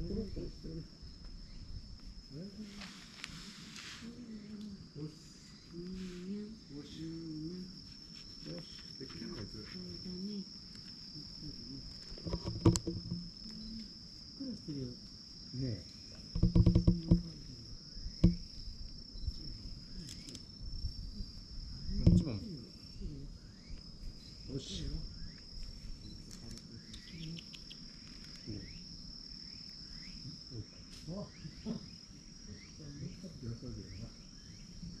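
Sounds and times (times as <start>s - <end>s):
insects buzzing: 0.0s - 35.0s.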